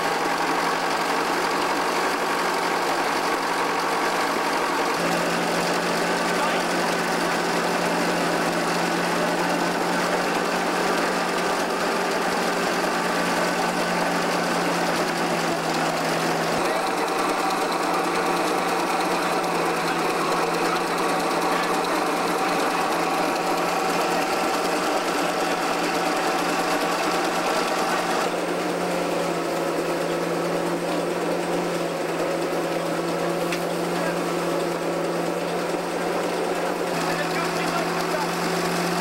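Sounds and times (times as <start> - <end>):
threshing machine humming: 0.0 - 39.0.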